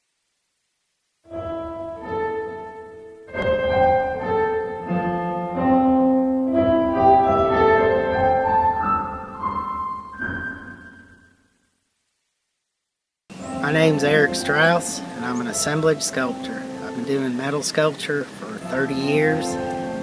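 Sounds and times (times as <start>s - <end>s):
piano background music: 1.3s - 11.6s, 13.3s - 20.0s.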